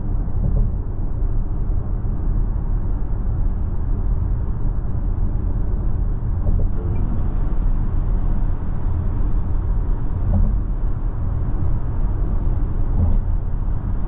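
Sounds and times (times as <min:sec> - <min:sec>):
road and wind noise in car cabin: 0:00.0 - 0:14.0.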